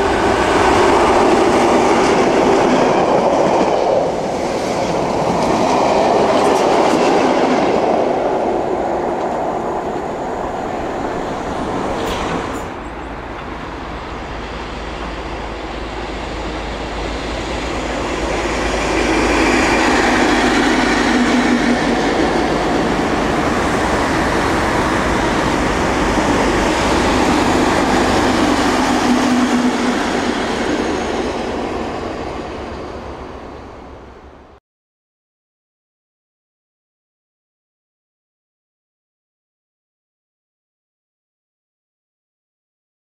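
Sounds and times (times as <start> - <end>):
diesel train passing at speed: 0.0 - 34.6
train wheel noise: 0.0 - 34.6.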